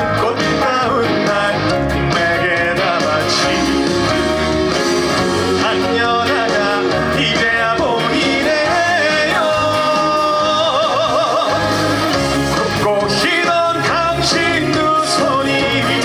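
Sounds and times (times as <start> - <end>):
band accompaniment: 0.0 - 16.0
man singing: 0.0 - 16.0.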